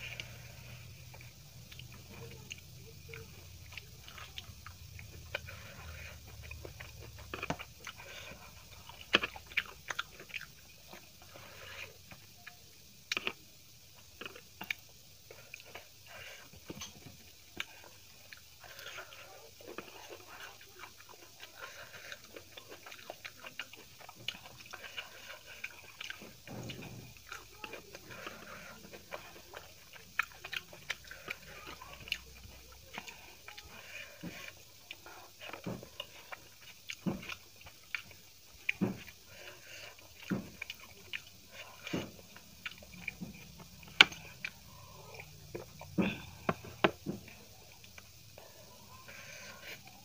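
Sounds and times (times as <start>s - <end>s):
person chewing and biting food: 0.0s - 48.4s.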